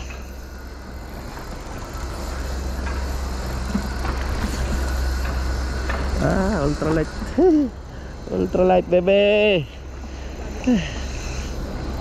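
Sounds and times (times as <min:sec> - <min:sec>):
spinning reel cranking: 0:00.0 - 0:12.0.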